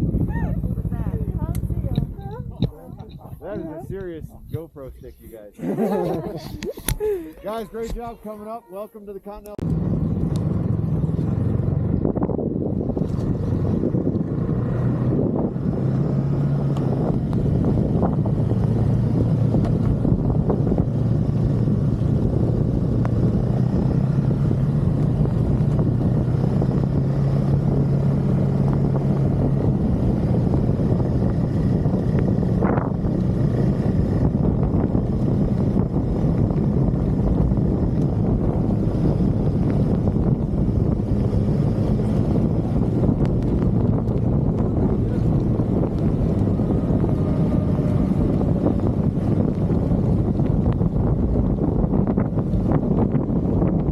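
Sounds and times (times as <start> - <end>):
wind buffeting microphone: 0.0 - 8.5, 9.5 - 53.9
snowmobile engine running: 0.0 - 53.9.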